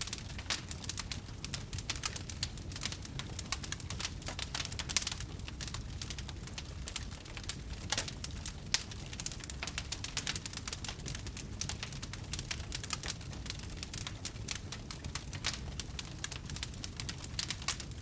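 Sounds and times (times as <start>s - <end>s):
campfire crackling: 0.0s - 18.0s
low rumble of flame: 0.0s - 18.0s.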